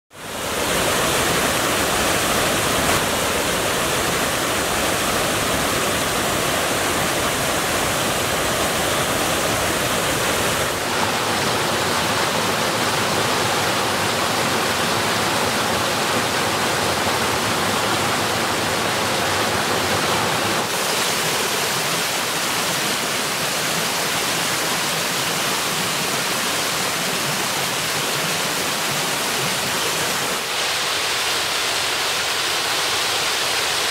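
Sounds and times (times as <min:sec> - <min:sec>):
waterfall rushing over rocks: 0:00.1 - 0:33.9.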